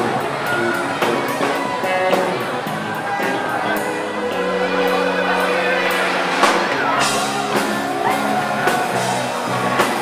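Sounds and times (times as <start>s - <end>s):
electric guitars: 0.0s - 10.0s
rock band playing: 0.0s - 10.0s.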